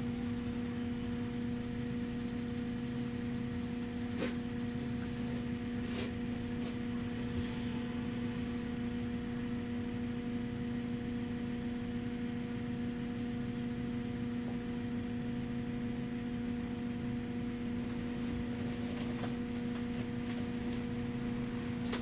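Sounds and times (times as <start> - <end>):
electric bus hum: 0.0 - 22.0.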